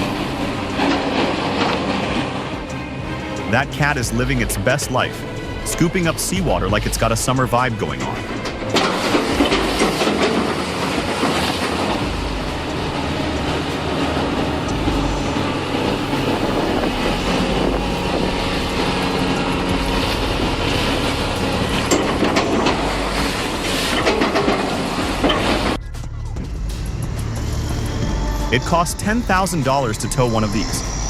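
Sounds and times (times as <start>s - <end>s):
rattling and clanking: 0.0s - 5.7s, 6.7s - 28.6s
heavy machine running: 0.0s - 31.0s.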